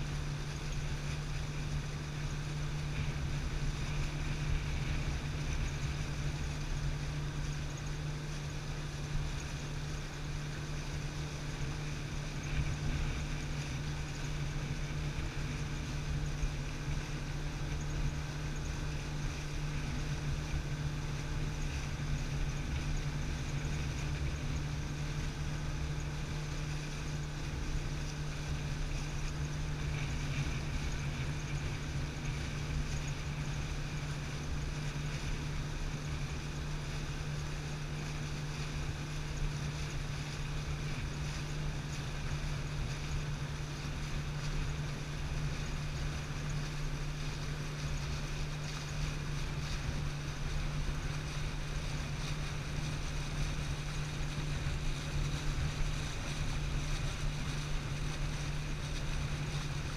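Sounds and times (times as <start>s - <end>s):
boat motor humming: 0.0s - 59.9s
water rushing: 0.0s - 59.9s.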